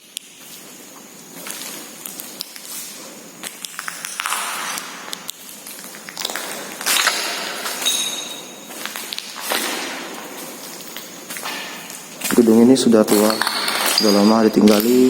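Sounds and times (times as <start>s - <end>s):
sharp clicks and scuffs: 0.1s - 15.0s
footsteps crunching on debris: 0.4s - 15.0s.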